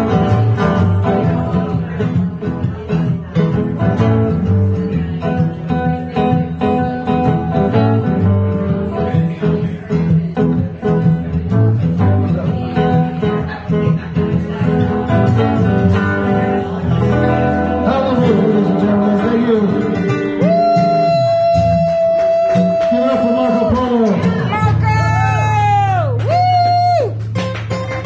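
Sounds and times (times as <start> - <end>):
acoustic guitar strumming: 0.0 - 28.0
electric guitar playing blues: 0.0 - 28.0.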